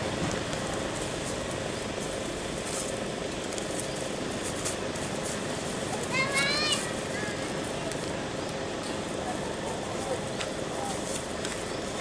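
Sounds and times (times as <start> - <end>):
background hum and hiss: 0.0 - 12.0
dry leaves rustling: 0.0 - 12.0.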